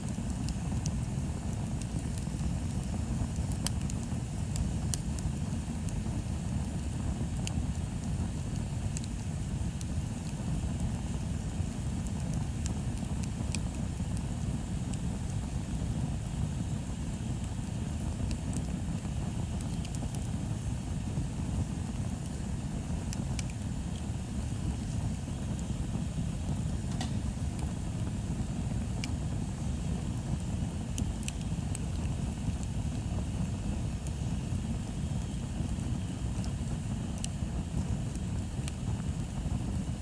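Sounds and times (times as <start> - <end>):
bonfire burning and crackling: 0.0 - 40.0.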